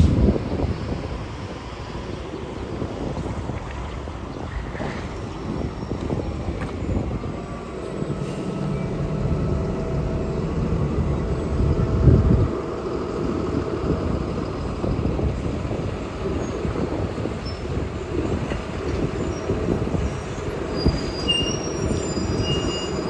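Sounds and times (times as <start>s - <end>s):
heavy vehicle engine running: 0.0s - 4.2s, 4.9s - 23.0s
street traffic: 0.0s - 23.0s.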